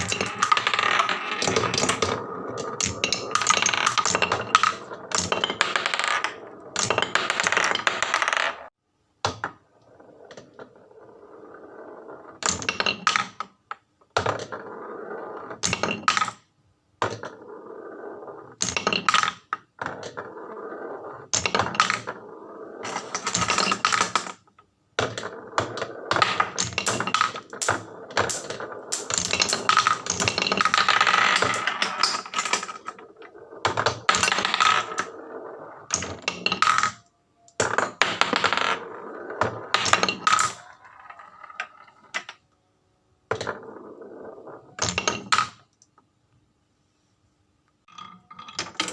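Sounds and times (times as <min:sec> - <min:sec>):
marbles rolling on wooden tracks: 0:00.0 - 0:08.7, 0:09.6 - 0:42.5, 0:43.3 - 0:45.8, 0:47.9 - 0:48.9.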